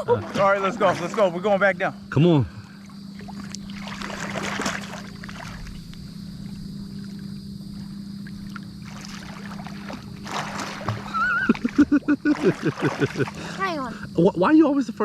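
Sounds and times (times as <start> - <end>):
water sloshing and swirling: 0.0 - 1.7, 2.6 - 13.6
low hum: 0.0 - 15.0.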